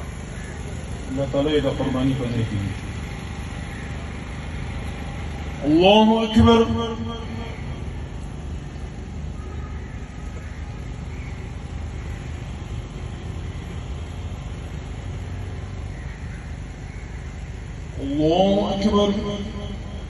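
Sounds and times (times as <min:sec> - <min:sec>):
low outdoor background rumble: 0:00.0 - 0:20.0.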